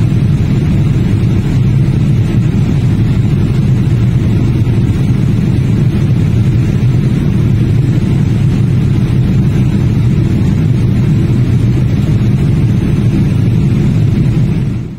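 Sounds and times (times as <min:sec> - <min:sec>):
airliner cabin engine rumble: 0:00.0 - 0:14.9.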